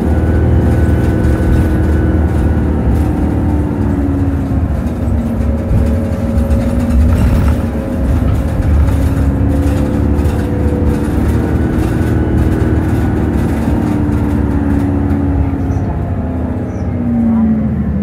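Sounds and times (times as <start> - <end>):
bus engine and drive hum: 0.0 - 18.0.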